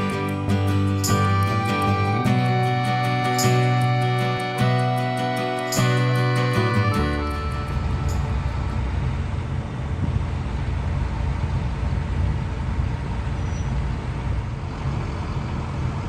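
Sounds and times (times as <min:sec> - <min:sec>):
diesel engine low rumble: 0:00.0 - 0:16.0.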